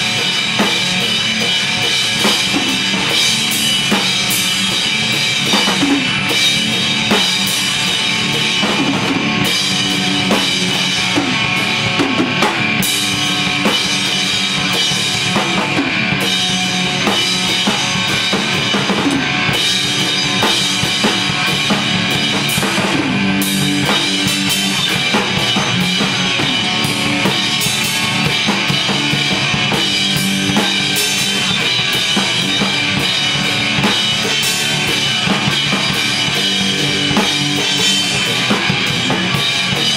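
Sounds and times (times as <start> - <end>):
drum kit playing: 0.0 - 39.9
electric guitar: 0.0 - 39.9.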